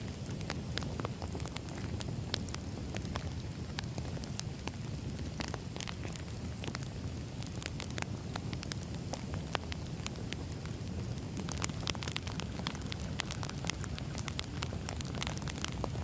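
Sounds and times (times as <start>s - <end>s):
burning logs rumbling: 0.0s - 16.0s
fire popping and crackling: 0.0s - 16.0s.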